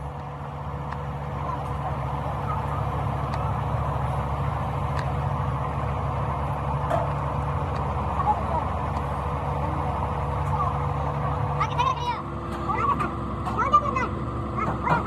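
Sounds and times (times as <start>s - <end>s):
heavy engine droning: 0.0s - 15.0s.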